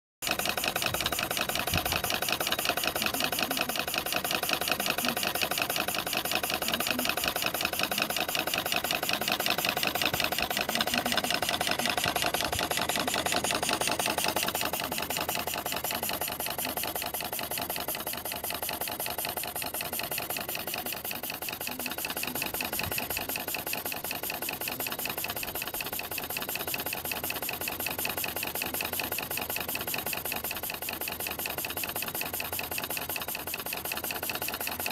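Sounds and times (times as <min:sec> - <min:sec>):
model steam engine running: 0:00.2 - 0:34.9.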